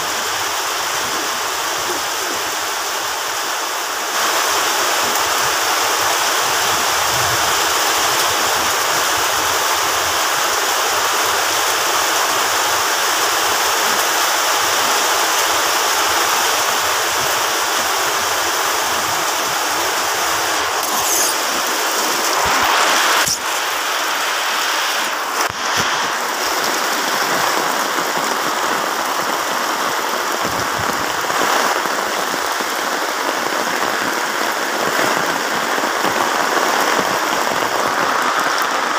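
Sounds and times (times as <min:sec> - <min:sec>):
heavy rain pouring on road and roofs: 0:00.0 - 0:38.9.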